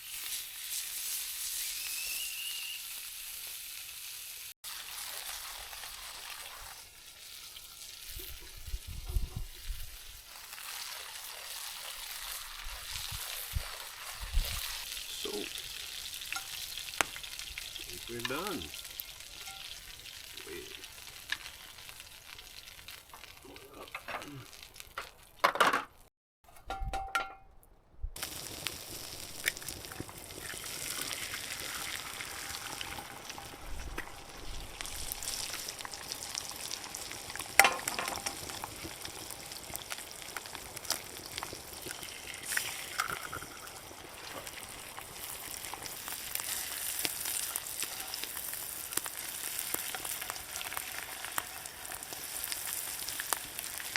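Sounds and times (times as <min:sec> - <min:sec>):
food sizzling in a frying pan: 0:00.0 - 0:26.0, 0:28.2 - 0:53.9.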